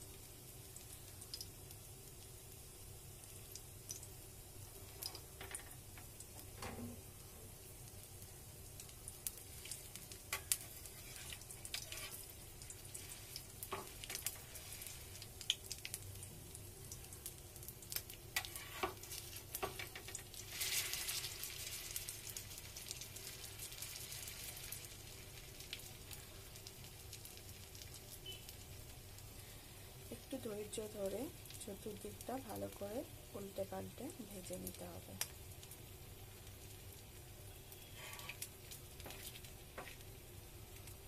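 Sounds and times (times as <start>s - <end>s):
patty sizzling in oil: 0.0s - 41.0s.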